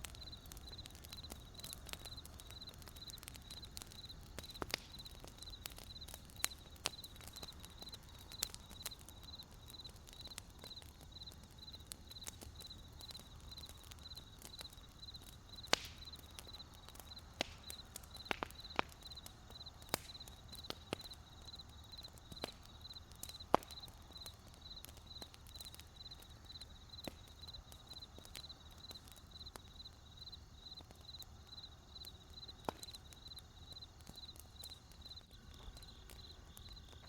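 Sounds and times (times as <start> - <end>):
campfire crackling and popping: 0.0 - 37.0
crickets chirping: 0.0 - 37.0.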